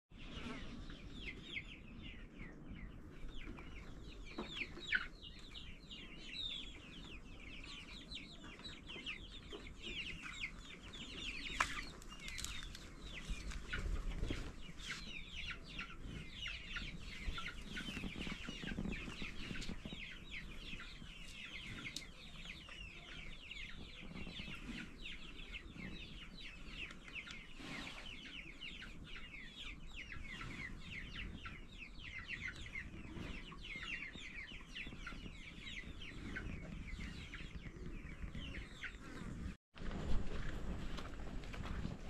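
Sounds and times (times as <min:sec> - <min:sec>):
birds chirping: 0:00.1 - 0:39.6.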